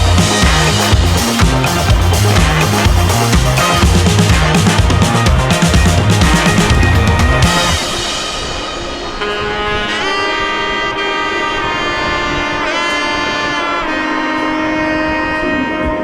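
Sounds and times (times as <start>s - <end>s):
background music with held chords: 0.0s - 16.0s.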